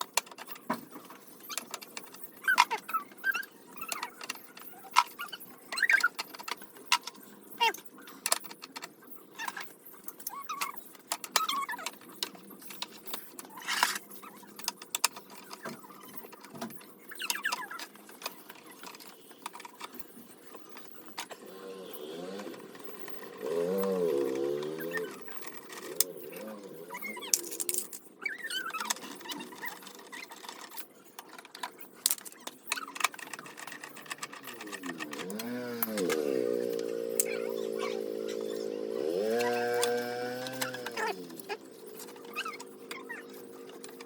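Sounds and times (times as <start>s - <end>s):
hard parts clicking and tapping: 0.0s - 44.0s.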